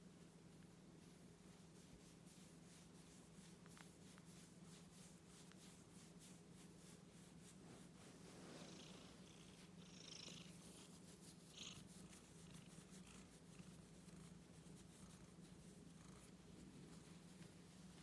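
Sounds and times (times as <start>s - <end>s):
soft rustle: 0.0s - 18.0s
cat purring: 1.0s - 17.5s.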